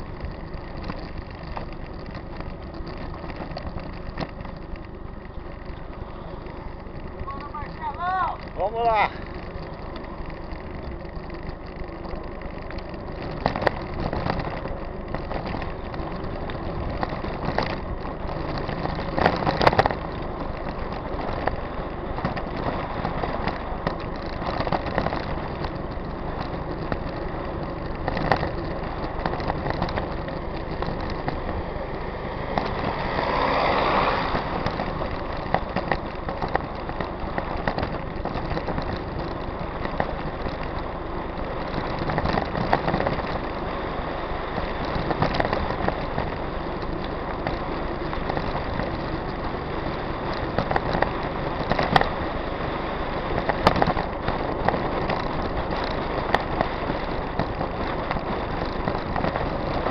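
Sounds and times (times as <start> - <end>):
bicycle tyres rumbling on rough road: 0.0 - 59.9.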